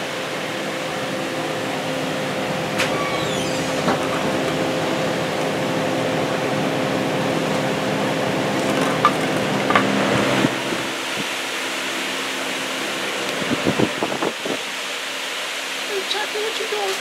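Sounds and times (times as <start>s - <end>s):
refrigeration hum: 0.0s - 16.9s.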